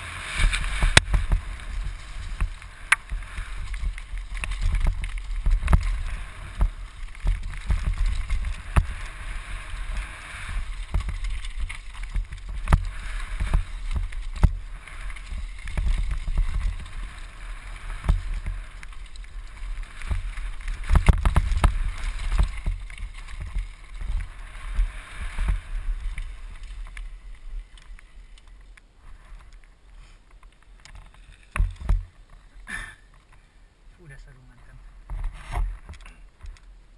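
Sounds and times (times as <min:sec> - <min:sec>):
wind rumbling on microphone: 0:00.0 - 0:32.6, 0:34.0 - 0:36.9
bike knocking and rattling: 0:00.0 - 0:33.4
bike tyres rolling hiss: 0:00.0 - 0:33.8.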